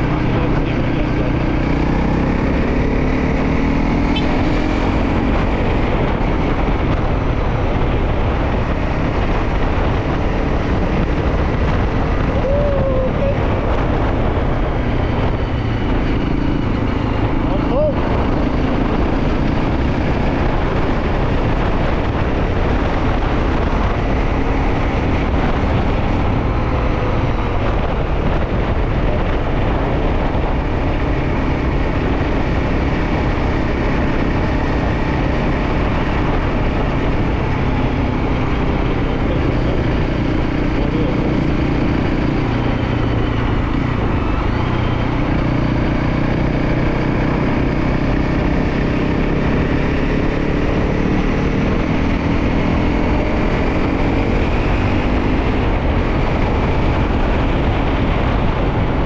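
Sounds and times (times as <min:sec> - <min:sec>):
loud rush of road noise: 0:00.0 - 0:59.0
motorcycle engine running: 0:00.0 - 0:59.0.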